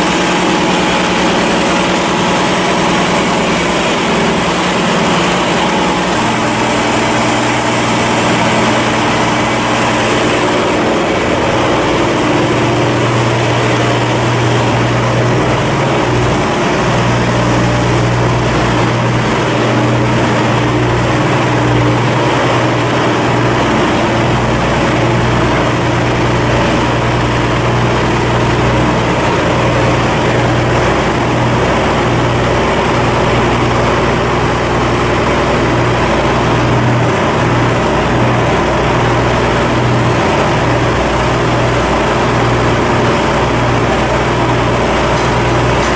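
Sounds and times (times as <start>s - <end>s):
marine diesel engine droning: 0.0s - 45.9s.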